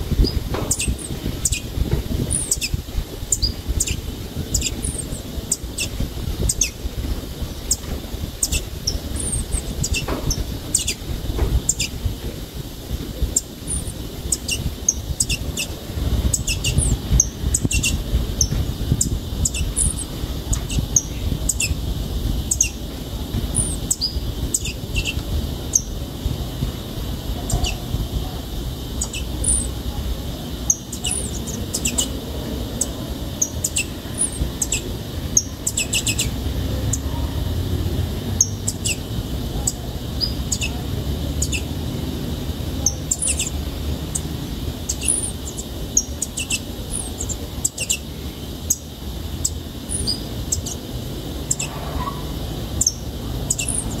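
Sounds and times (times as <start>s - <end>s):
nestling chirping: 0.0s - 41.8s, 42.8s - 50.8s, 51.4s - 54.0s
low steady rumble: 0.0s - 54.0s.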